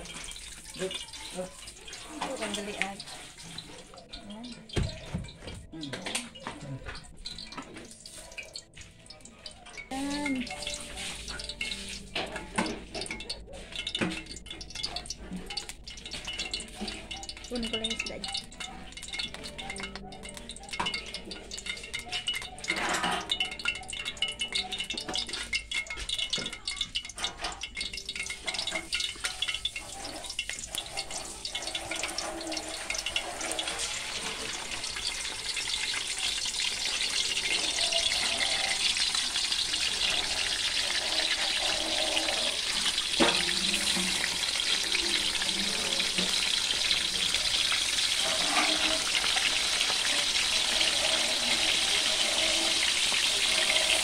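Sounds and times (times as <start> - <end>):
fish frying in hot oil: 0.0 - 54.0.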